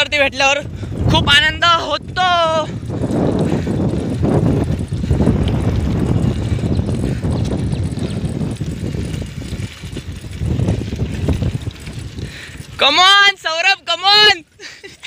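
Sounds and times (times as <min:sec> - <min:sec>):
wind rushing over microphone: 0:00.0 - 0:13.5
bicycle tyres rumbling on asphalt: 0:00.0 - 0:15.0.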